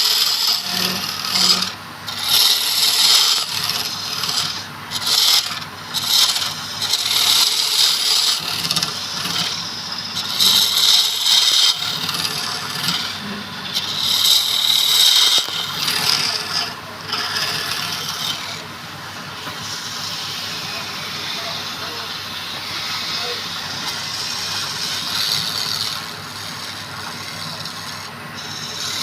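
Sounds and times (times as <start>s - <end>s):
tool scraping turning wood: 0.0s - 29.0s.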